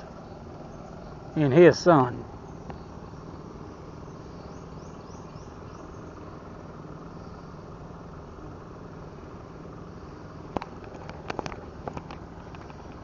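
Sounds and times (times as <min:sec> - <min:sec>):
distant motor humming: 0:00.0 - 0:13.0
insects chirping: 0:00.0 - 0:13.0.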